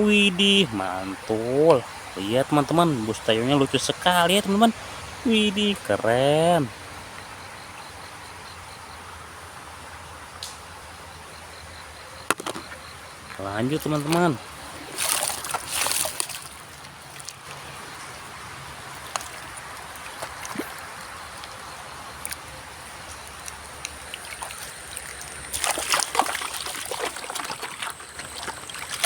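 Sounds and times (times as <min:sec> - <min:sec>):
water trickling and sloshing: 0:00.0 - 0:29.0.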